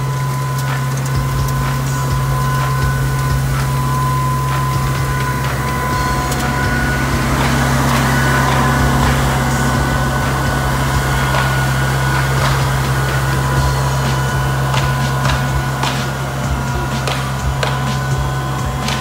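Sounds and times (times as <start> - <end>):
high whine: 0.0 - 19.0
sweeper engine hum: 0.0 - 19.0.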